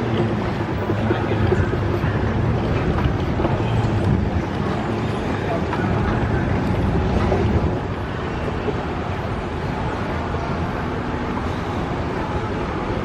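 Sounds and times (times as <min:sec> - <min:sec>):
vehicle in motion rumbling: 0:00.0 - 0:13.0.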